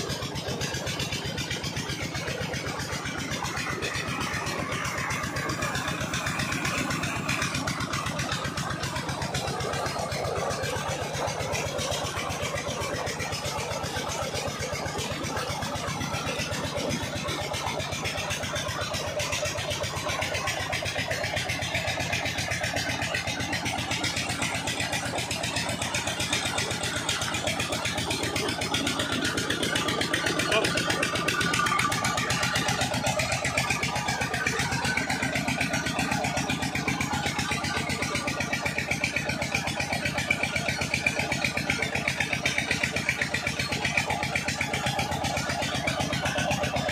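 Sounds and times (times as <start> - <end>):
diesel engine running: 0.0 - 46.9
water gushing from pipe: 0.0 - 46.9.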